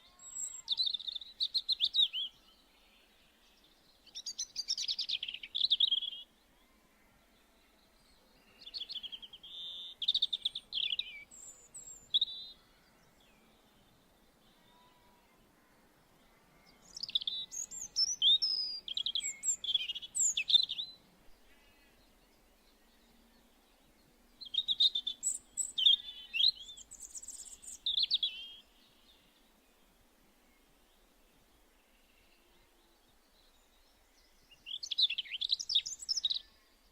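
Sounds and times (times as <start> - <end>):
songbird singing trills: 0.0 - 2.7, 3.5 - 6.4, 7.7 - 14.1, 16.6 - 29.4, 31.9 - 36.9.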